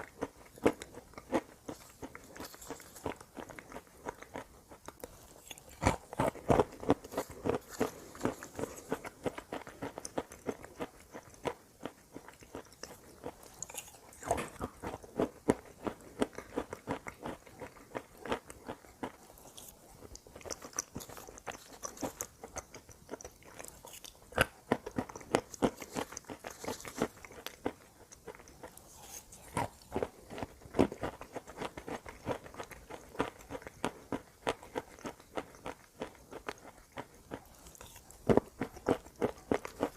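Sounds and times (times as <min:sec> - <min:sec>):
chewing hard crunchy chalk: 0:00.0 - 0:39.9.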